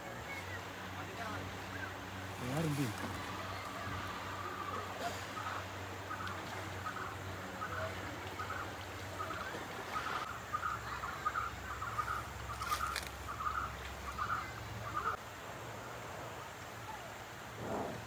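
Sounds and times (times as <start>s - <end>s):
bird calling: 0.2s - 15.2s.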